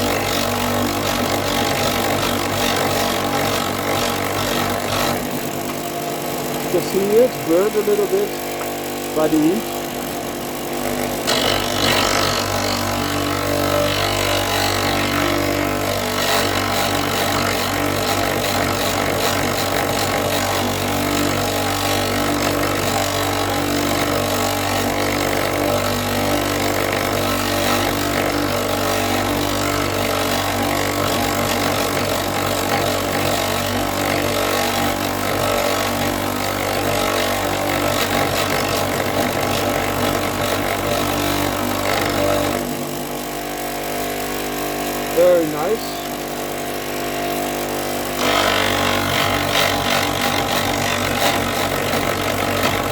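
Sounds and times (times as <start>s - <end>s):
power tool grinding wood: 0.0s - 52.9s.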